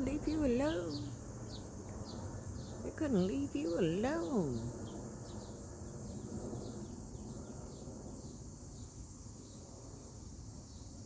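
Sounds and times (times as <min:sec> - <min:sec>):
insects buzzing: 0:00.0 - 0:11.0
low rumble of wind: 0:00.0 - 0:11.0
small birds chirping: 0:00.0 - 0:11.0.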